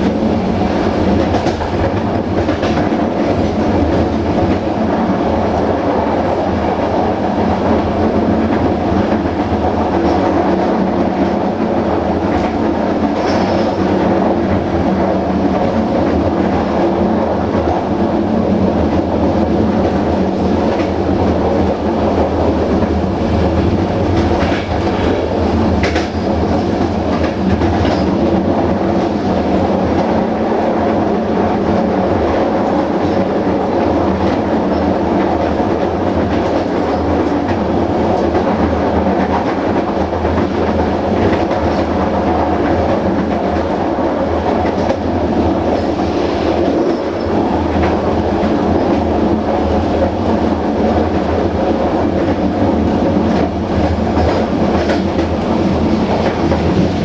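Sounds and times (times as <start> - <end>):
rumble of train wheels on rail: 0.0 - 57.0.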